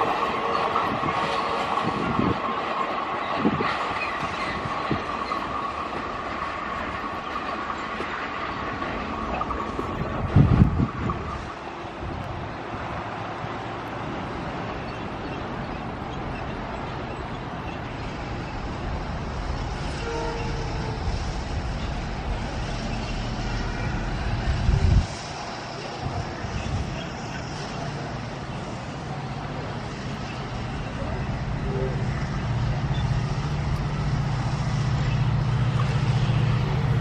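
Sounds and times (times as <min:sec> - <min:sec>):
diesel locomotive engine rumble: 0:00.0 - 0:37.0.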